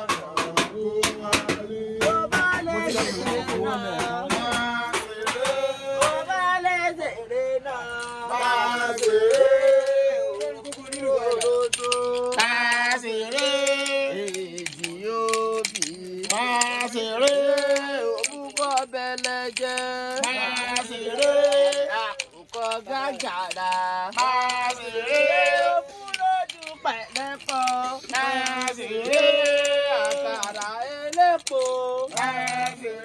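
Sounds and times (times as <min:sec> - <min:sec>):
sharp clicks and rattles: 0:00.0 - 0:06.3, 0:08.0 - 0:33.0.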